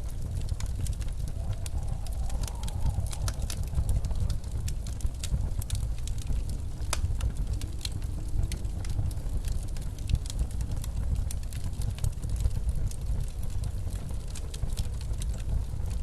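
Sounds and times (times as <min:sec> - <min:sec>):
snowstorm wind rumble: 0:00.0 - 0:16.0
wood fire crackling and popping: 0:00.0 - 0:16.0.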